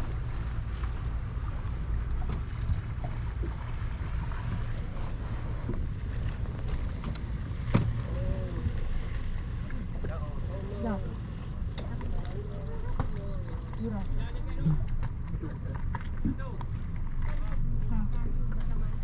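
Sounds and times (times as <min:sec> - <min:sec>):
hull slapping water: 0:00.0 - 0:19.0
motorboat engine rumbling: 0:00.0 - 0:19.0.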